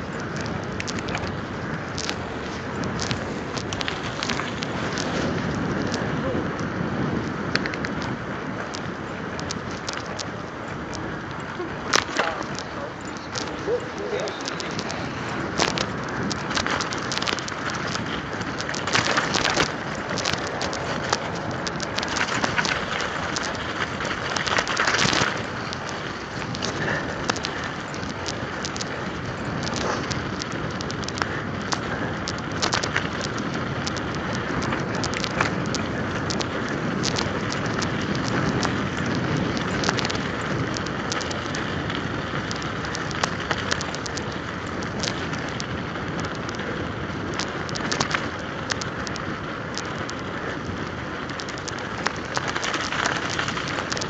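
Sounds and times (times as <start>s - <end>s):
bike tyres crackling over icy snow: 0.0s - 54.0s.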